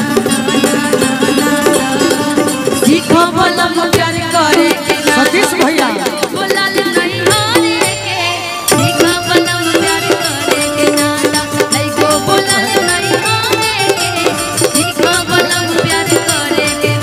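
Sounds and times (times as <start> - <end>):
live folk band playing: 0.0 - 17.0.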